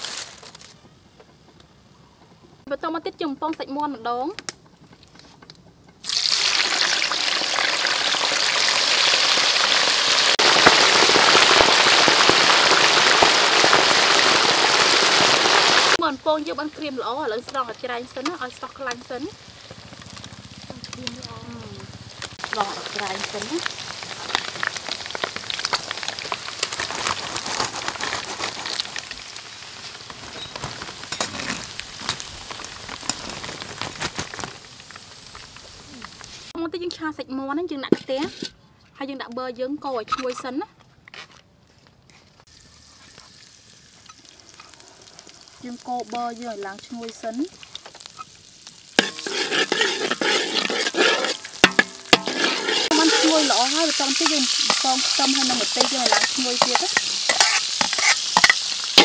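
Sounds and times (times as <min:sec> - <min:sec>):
chicken sizzling in hot oil: 0:00.0 - 0:00.5, 0:06.0 - 0:36.6, 0:42.5 - 0:59.0.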